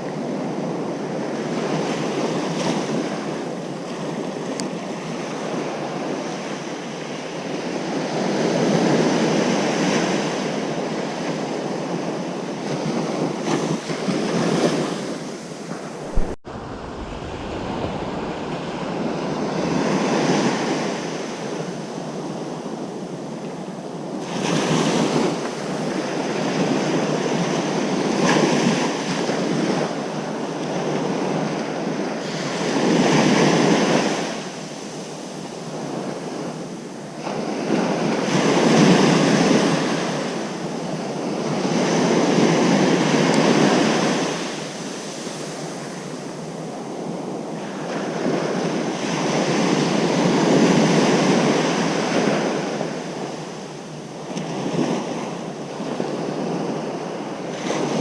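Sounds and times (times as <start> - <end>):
ocean surf breaking on beach: 0.1 - 58.0.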